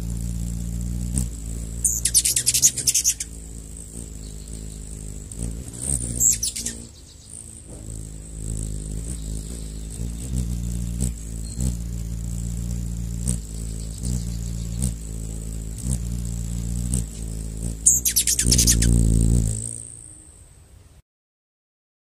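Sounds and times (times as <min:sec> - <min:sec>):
hummingbird wings humming: 0:00.0 - 0:21.0
high falling bird chirps: 0:01.3 - 0:21.0.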